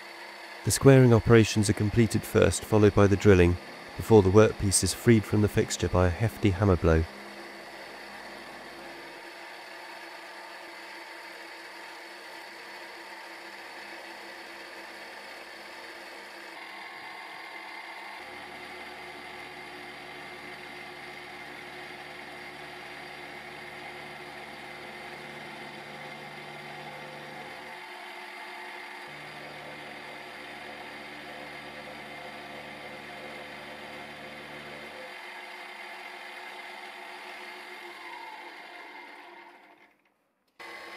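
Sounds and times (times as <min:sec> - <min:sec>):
milling machine whirring: 0:00.0 - 0:40.0, 0:40.6 - 0:40.9.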